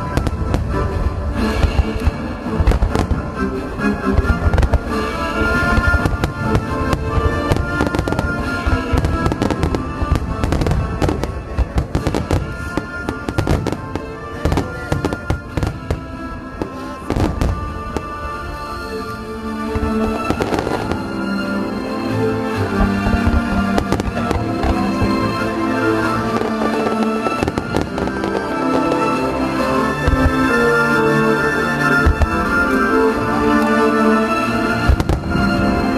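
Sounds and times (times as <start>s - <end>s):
fireworks bangs and crackles: 0.0s - 35.9s
music playing: 0.0s - 35.9s.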